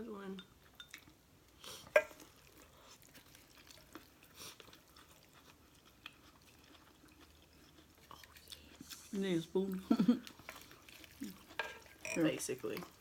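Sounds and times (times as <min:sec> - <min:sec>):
quiet chewing of noodles: 0:00.6 - 0:12.0.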